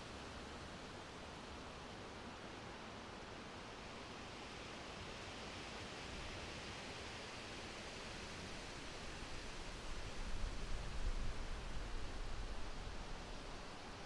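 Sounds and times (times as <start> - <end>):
wind rustling tree leaves: 0.0 - 14.0.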